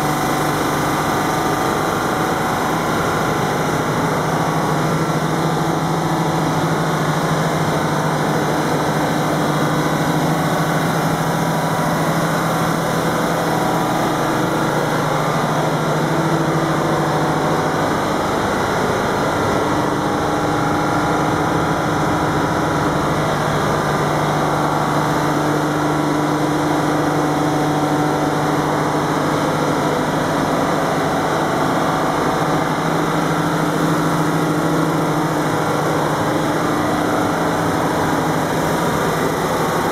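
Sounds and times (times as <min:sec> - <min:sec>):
diesel generator engine droning: 0:00.0 - 0:39.9.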